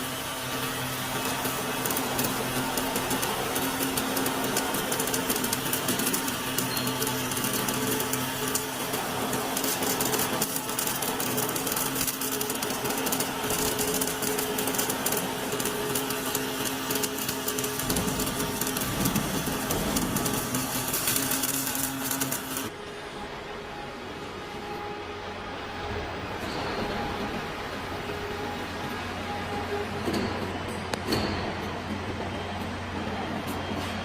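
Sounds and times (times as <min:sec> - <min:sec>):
welding arc crackling: 0:00.0 - 0:31.3.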